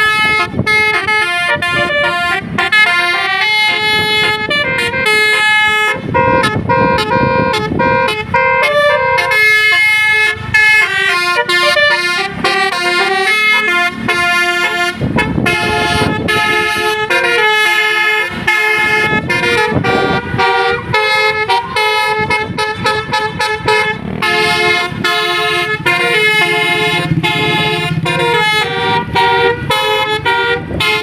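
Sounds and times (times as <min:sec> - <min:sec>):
low engine rumble: 0:00.0 - 0:31.0
musical air horn melody: 0:00.0 - 0:31.0.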